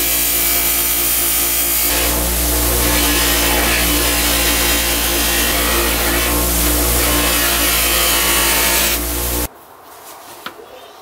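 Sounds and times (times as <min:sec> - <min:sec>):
grinder motor hum: 0:00.0 - 0:09.5.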